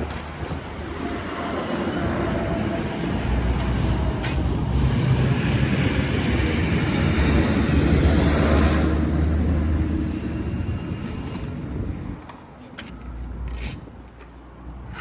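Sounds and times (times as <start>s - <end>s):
heavy truck engine rumbling: 0.0s - 15.0s.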